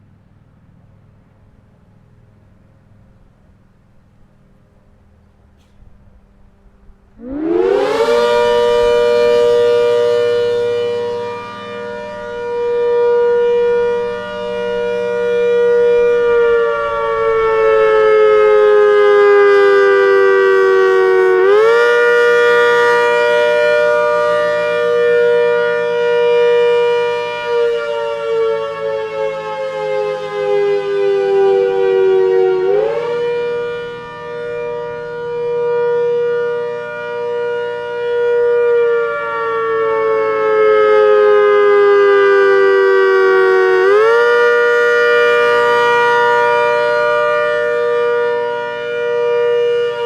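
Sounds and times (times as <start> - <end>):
wavering warning siren: 0.0 - 50.0.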